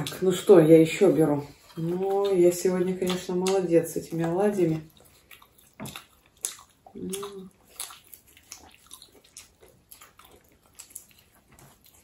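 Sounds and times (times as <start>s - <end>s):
wet chewing and mouth clicks: 0.0s - 12.0s.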